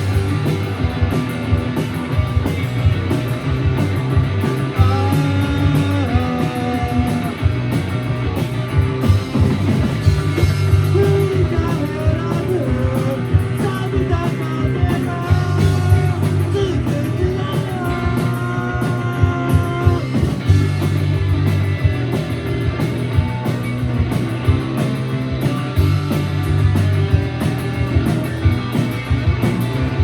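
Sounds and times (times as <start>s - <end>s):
bass guitar: 0.0s - 30.0s
drums: 0.0s - 30.0s
electric guitars: 0.0s - 30.0s.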